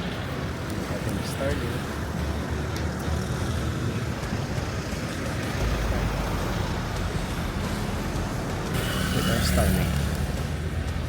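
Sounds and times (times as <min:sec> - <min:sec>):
road traffic hiss and rumble: 0:00.0 - 0:11.0.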